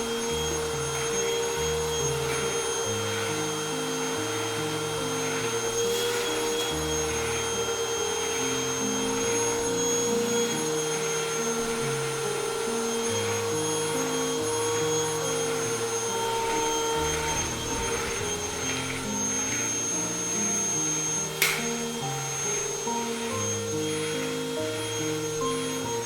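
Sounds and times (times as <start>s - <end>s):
soft background music: 0.0s - 26.0s
vacuum cleaner whining: 0.0s - 26.0s.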